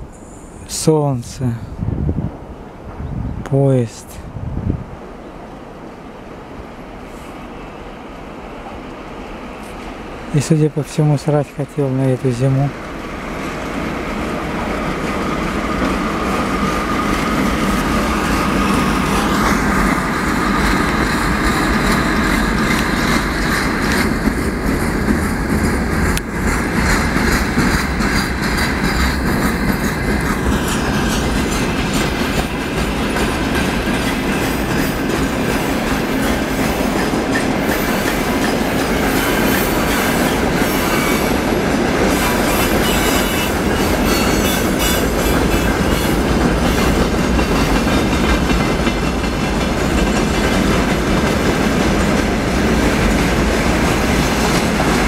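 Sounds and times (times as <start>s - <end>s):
freight train rolling past: 3.9s - 55.0s.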